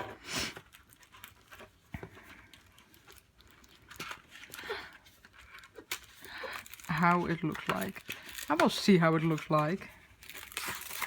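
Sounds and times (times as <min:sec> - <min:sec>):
plastic packaging rustling: 0:00.2 - 0:11.0.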